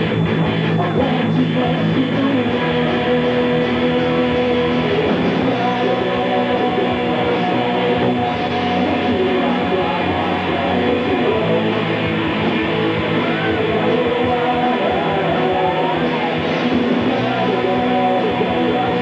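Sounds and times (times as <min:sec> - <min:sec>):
loud electric guitar: 0:00.0 - 0:19.0
rock band playing live: 0:00.0 - 0:19.0.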